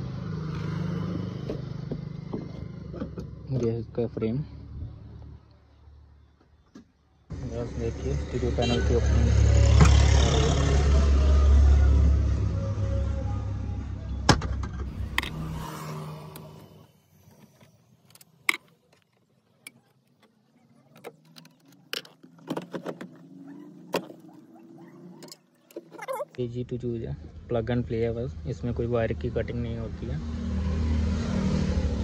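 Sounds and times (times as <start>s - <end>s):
vehicle low rumble: 0.0s - 32.0s.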